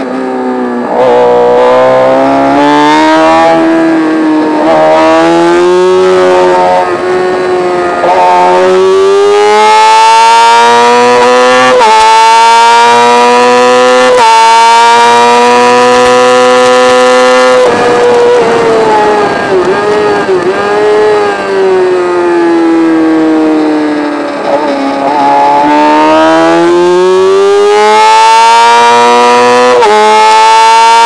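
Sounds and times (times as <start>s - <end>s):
racing motorcycle engine: 0.0s - 31.0s.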